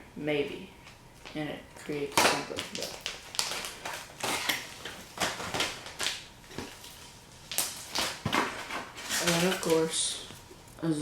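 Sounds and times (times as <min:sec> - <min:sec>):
packaging crinkling and rustling: 0:01.2 - 0:10.8.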